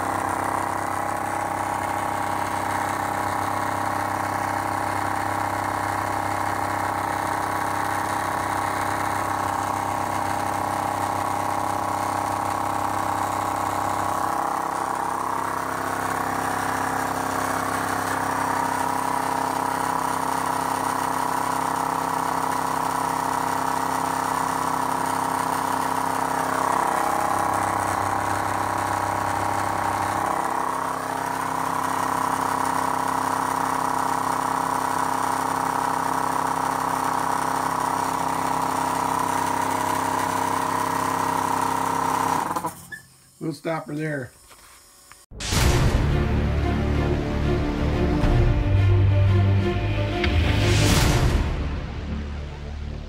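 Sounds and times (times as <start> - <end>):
electric compressor humming: 0.0 - 53.0.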